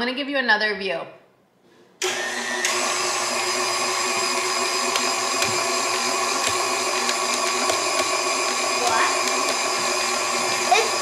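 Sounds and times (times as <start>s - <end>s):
stand mixer motor whining: 2.0s - 11.0s.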